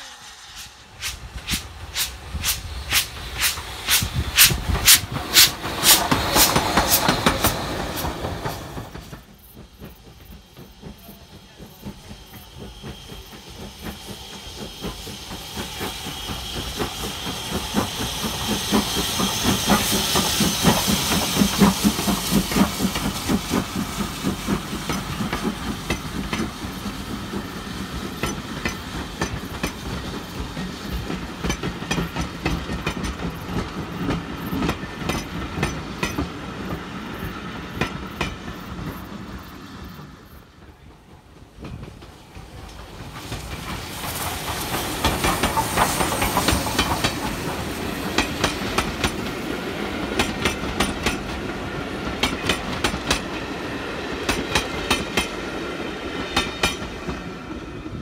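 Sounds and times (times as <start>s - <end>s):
steam hissing: 0.0s - 58.0s
steam locomotive exhaust beats: 0.0s - 58.0s
train wheels clicking over rail joints: 0.4s - 58.0s.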